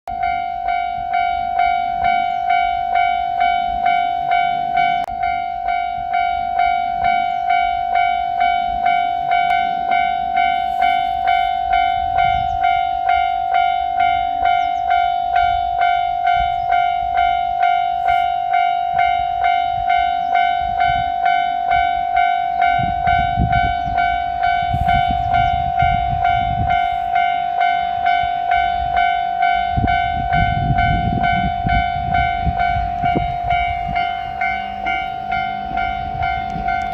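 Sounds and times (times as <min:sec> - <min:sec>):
level-crossing warning bell: 0:00.1 - 0:36.9.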